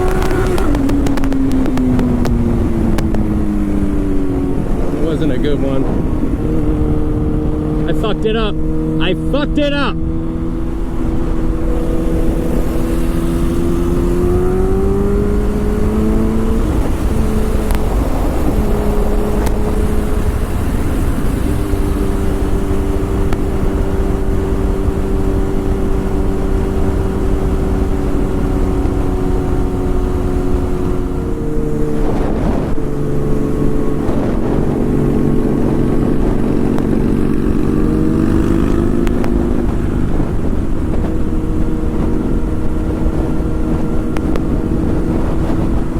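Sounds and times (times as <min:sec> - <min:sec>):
vehicle engine running: 0:00.0 - 0:45.9
wind rumble on microphone: 0:00.0 - 0:45.9.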